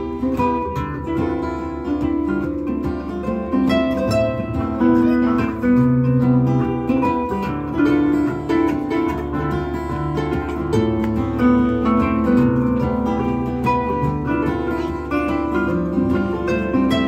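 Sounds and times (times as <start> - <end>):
acoustic guitar playing: 0.0 - 17.0
harp plucking: 0.0 - 17.0.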